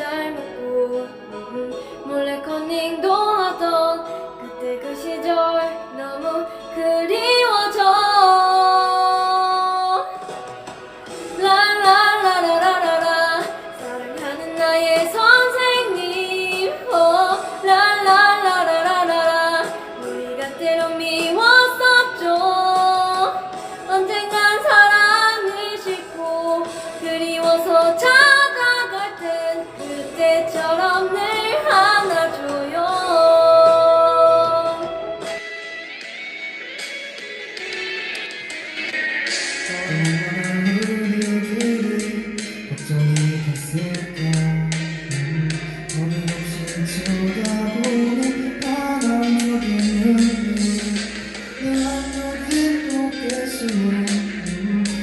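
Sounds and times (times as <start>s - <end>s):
woman singing slow melody: 0.0s - 10.3s, 11.3s - 35.4s, 39.6s - 55.0s.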